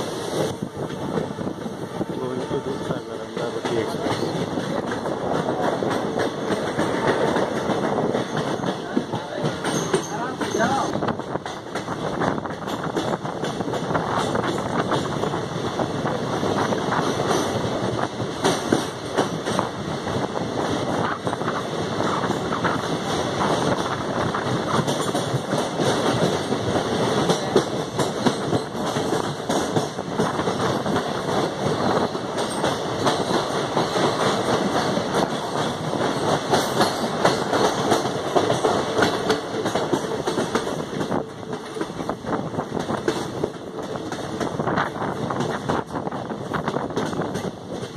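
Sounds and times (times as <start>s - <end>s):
rumble of train coaches: 0.0s - 47.9s
train wheels clattering over rail joints: 0.0s - 47.9s.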